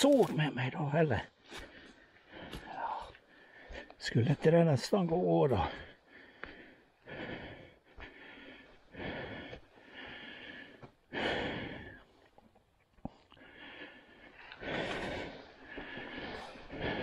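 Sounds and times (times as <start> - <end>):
person breathing hard: 1.4 - 4.0, 5.5 - 17.0.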